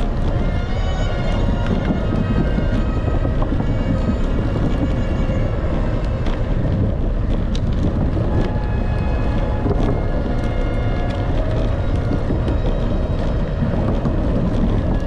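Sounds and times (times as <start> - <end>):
bicycle tyres rumbling on planks: 0.0 - 15.0
wind on microphone: 0.0 - 15.0.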